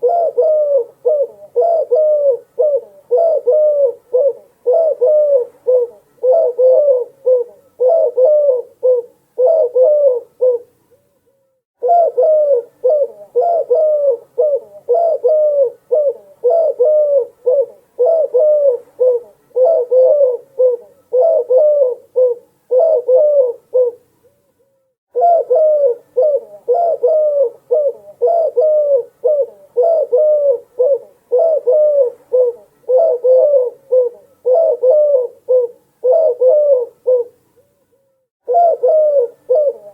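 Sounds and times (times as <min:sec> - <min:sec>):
doves cooing: 0:00.0 - 0:10.7, 0:11.8 - 0:24.1, 0:25.1 - 0:37.4, 0:38.4 - 0:39.9.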